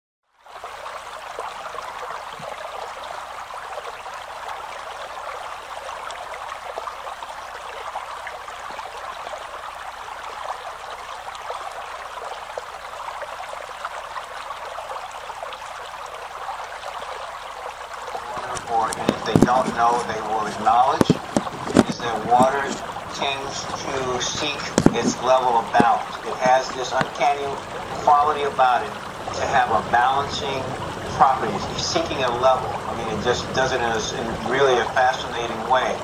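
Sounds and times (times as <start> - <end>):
stream trickling: 0.3 - 36.0.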